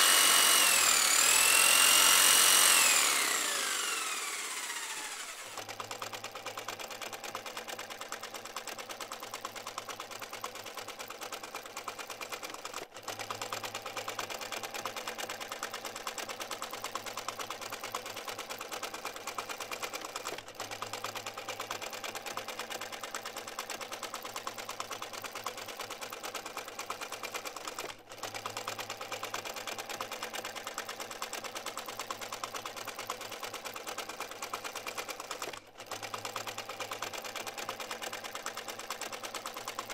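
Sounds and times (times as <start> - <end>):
rapid mechanical clatter: 0.0 - 39.9.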